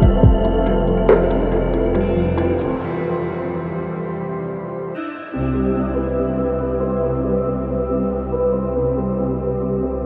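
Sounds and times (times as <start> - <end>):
ambient music held tones: 0.0 - 10.0.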